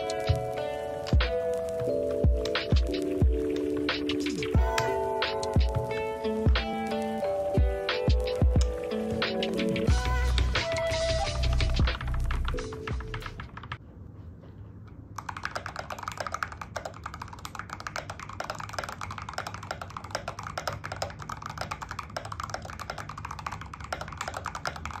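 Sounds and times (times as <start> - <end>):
mechanical keyboard typing: 0.0 - 9.9, 11.4 - 13.8, 15.2 - 25.0.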